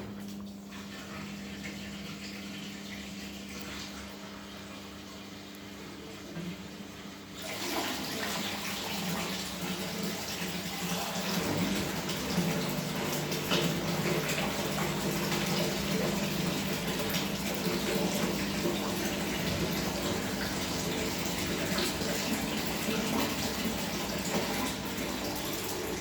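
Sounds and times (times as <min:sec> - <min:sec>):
low machine hum: 0:00.0 - 0:26.0
water rushing into washing machine: 0:00.0 - 0:26.0.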